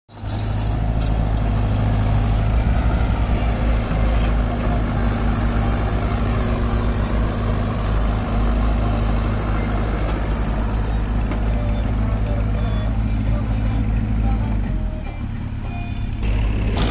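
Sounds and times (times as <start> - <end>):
excavator diesel engine droning: 0.1 - 16.9.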